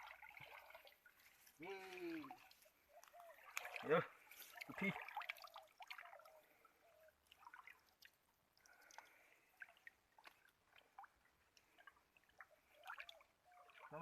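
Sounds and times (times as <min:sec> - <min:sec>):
river water dripping and trickling: 0:00.0 - 0:14.0
water gurgles: 0:00.0 - 0:14.0.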